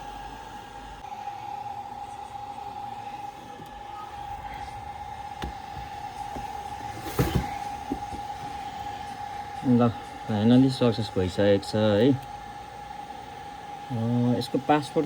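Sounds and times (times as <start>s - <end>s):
high-pitched electrical whine: 0.0s - 15.0s.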